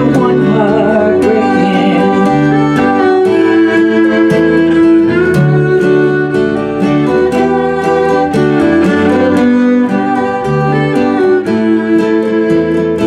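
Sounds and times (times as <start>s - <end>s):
strummed acoustic guitar: 0.0s - 13.0s
violin playing melody: 0.0s - 13.0s.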